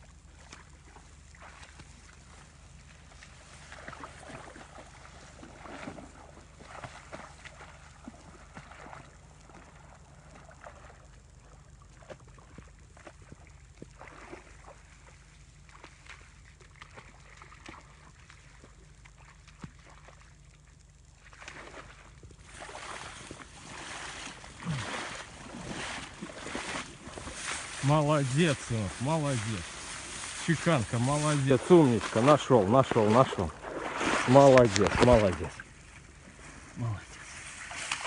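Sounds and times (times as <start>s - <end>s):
rustling through wet grass: 0.0s - 38.0s.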